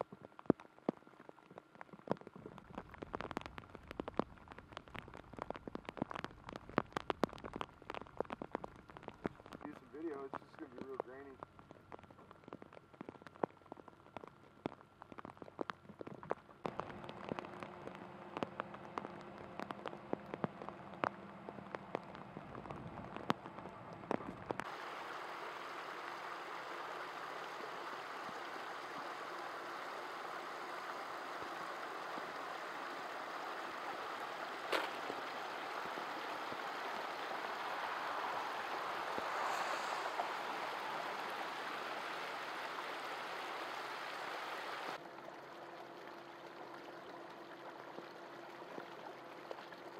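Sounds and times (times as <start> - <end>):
raindrops falling into a puddle: 0.0 - 49.9
water rushing down a drainage channel: 0.0 - 49.9.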